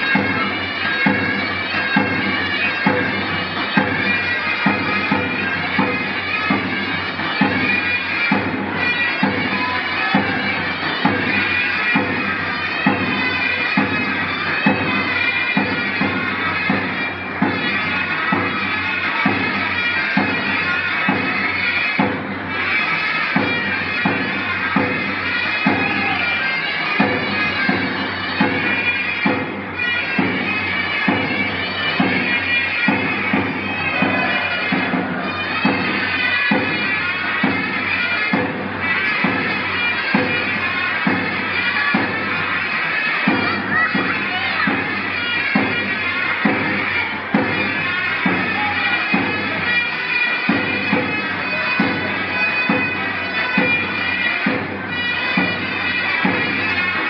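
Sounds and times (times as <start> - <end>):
shrill nasal reed melody: 0.0 - 57.0
steady drum beat: 0.0 - 57.0.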